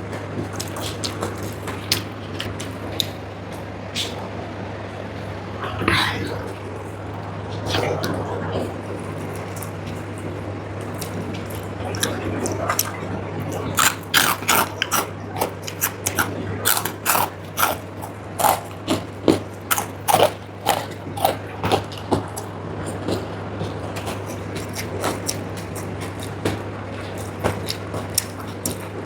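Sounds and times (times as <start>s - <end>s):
chewing crunchy food: 0.0s - 29.0s
steady low hum: 0.0s - 29.0s.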